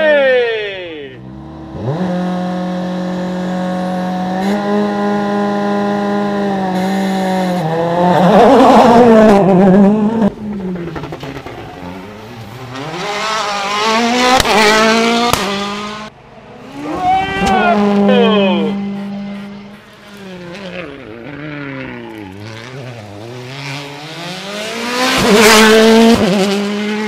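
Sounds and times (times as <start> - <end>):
rally car engine revving: 1.2 - 27.0.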